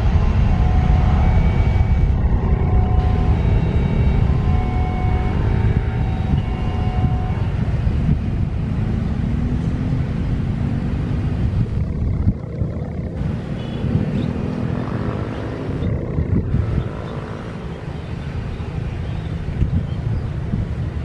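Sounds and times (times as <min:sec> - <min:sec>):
jet engines at take-off power: 0:00.0 - 0:21.0.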